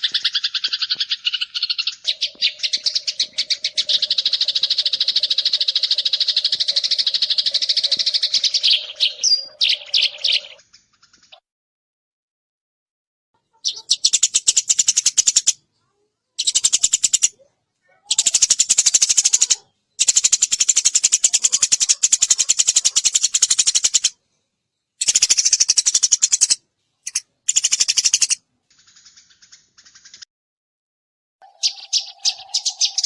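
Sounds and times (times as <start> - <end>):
sparrow chirping: 0.0 - 11.4, 13.4 - 30.2, 31.4 - 33.0.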